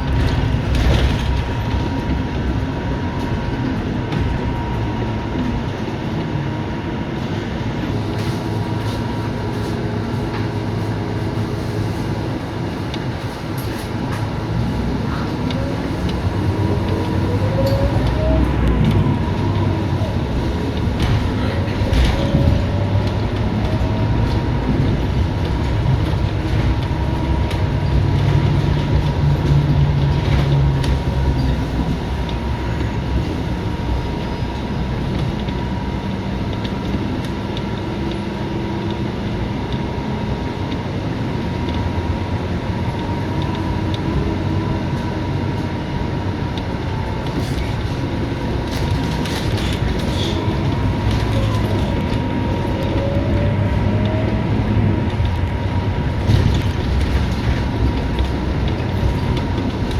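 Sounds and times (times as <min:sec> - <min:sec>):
bus engine running: 0:00.0 - 0:59.9
road and cabin noise: 0:00.0 - 0:59.9.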